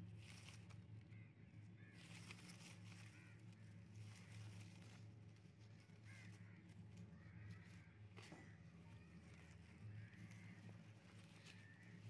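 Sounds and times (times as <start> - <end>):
low steady hum: 0.0 - 12.0
distant crows cawing: 1.0 - 12.0.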